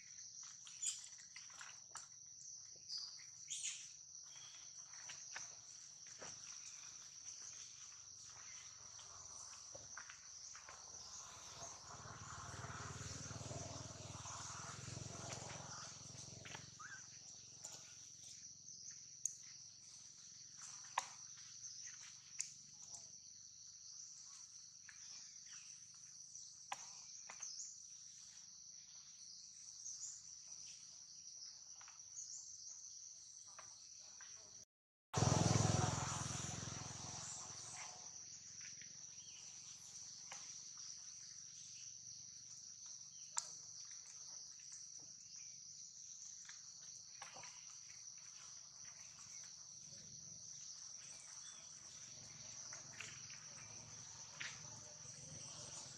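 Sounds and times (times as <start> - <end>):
insects droning: 0.0 - 34.6, 35.2 - 55.9.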